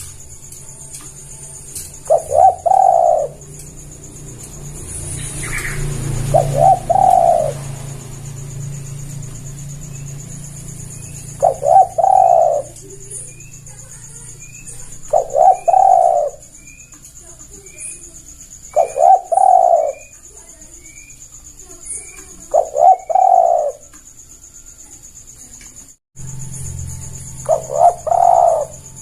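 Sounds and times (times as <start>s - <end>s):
dove cooing: 0.0s - 23.9s, 27.4s - 29.0s
small bird chirping faintly: 0.0s - 29.0s.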